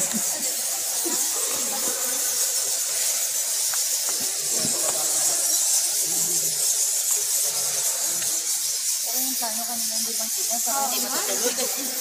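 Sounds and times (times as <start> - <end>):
faint voices: 0.0 - 3.4, 4.0 - 12.0
steady high hiss: 0.0 - 12.0.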